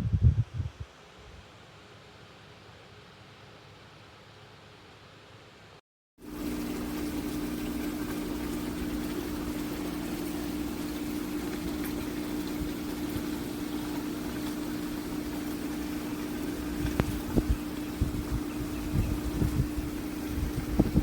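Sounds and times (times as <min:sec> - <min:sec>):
fan air rushing: 0:00.0 - 0:03.3, 0:06.2 - 0:21.0
fan motor hum: 0:00.0 - 0:21.0.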